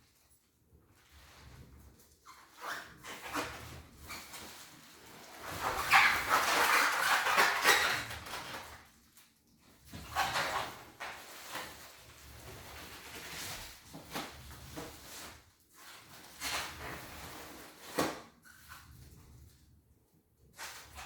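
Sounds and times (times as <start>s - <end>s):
packaging rustling and scraping: 1.2s - 9.2s, 9.8s - 19.3s.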